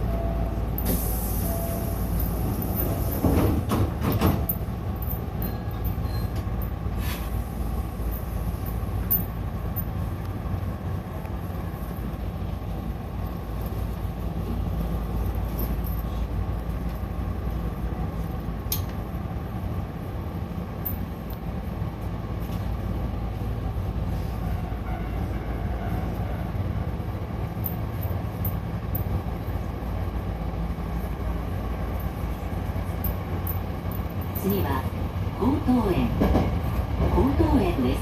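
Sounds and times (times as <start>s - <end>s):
electric train rumbling: 0.0s - 38.0s.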